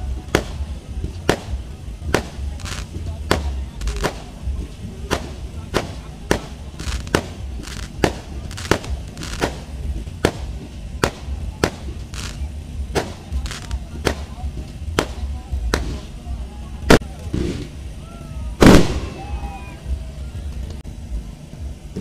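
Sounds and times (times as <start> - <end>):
fireworks bangs: 0.0 - 20.6.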